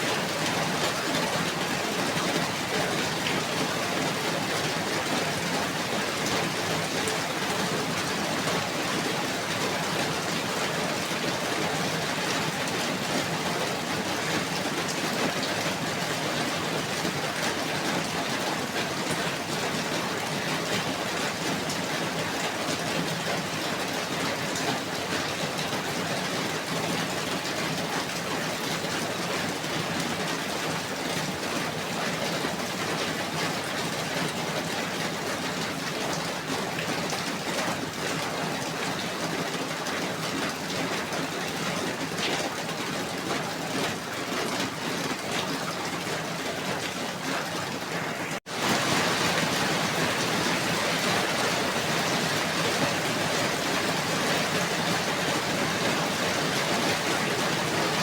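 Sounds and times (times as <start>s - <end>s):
steady dense rain: 0.0s - 58.0s.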